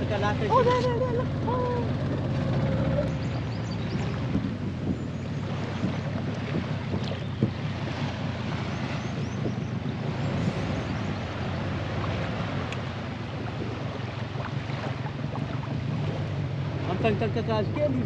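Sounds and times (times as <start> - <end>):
boat engine hum: 0.0 - 18.0
water rushing: 0.0 - 18.0
wind buffeting microphone: 0.0 - 18.0.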